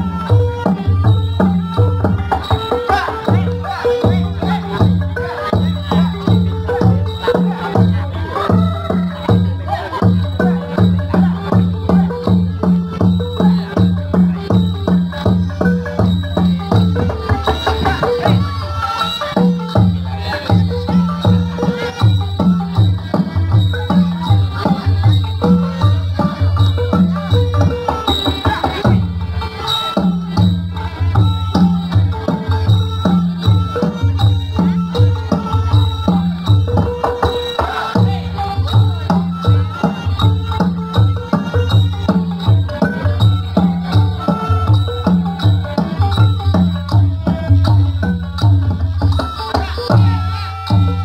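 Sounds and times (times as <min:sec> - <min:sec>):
drum beating steadily: 0:00.0 - 0:51.0
traditional dance music: 0:00.0 - 0:51.0.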